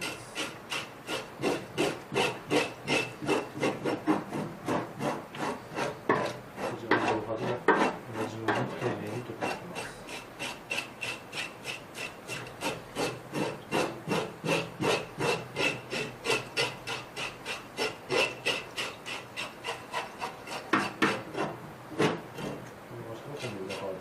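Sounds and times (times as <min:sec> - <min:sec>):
fish scaler scraping scales: 0:00.0 - 0:24.0.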